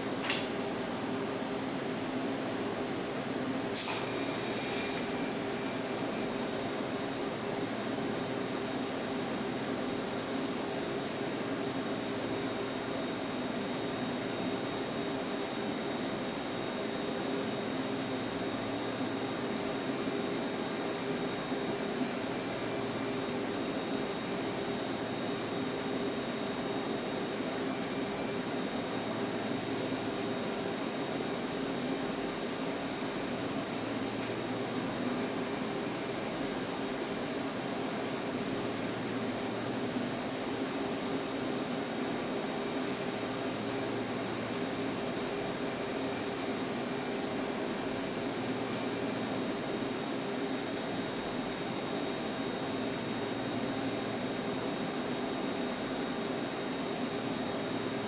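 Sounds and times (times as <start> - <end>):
machine hum and hiss: 0.0 - 58.0.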